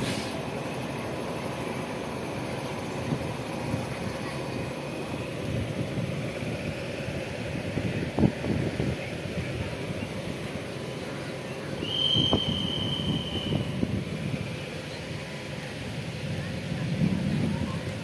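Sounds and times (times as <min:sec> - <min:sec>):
rushing air: 0:00.0 - 0:18.0
train wheels rumbling on track: 0:00.0 - 0:18.0.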